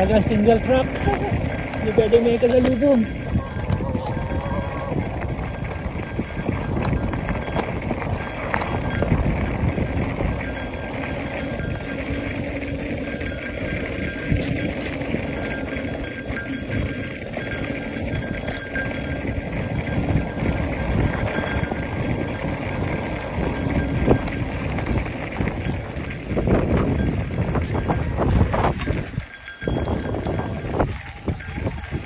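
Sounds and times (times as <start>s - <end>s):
bike rattling over bumps: 0.0s - 32.0s
tyres rolling on dirt: 0.0s - 32.0s.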